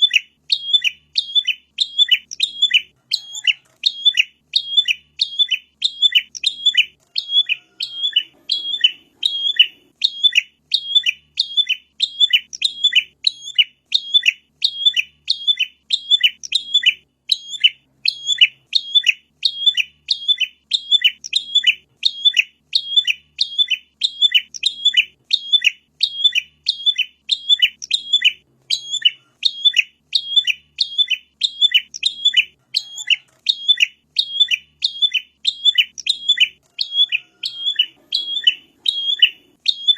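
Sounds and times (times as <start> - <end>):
bird sharp chirps: 0.0 - 39.9.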